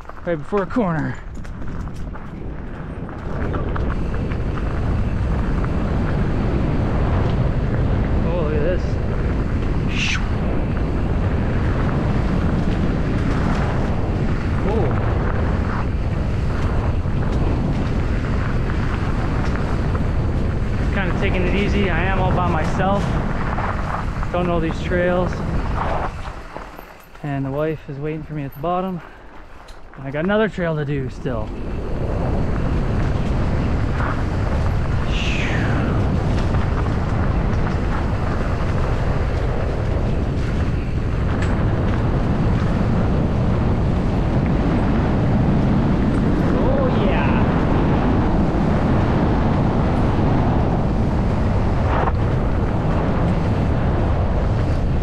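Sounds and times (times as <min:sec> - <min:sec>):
bike clicks and rattles: 0:00.0 - 0:55.0
wind buffeting microphone: 0:00.0 - 0:55.0.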